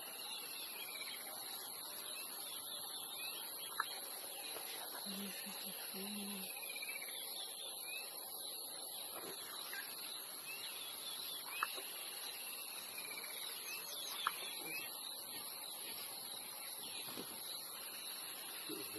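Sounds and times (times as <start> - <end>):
high-pitched hiss: 0.0 - 18.9
wild birds chirping: 0.0 - 18.9.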